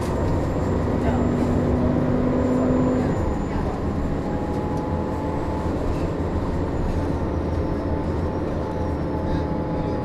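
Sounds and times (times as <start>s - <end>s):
diesel bus engine rumbling: 0.0s - 10.0s.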